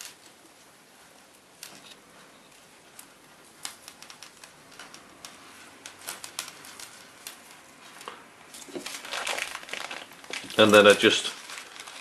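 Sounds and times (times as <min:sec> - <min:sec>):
fishing line rustling: 0:01.6 - 0:12.0.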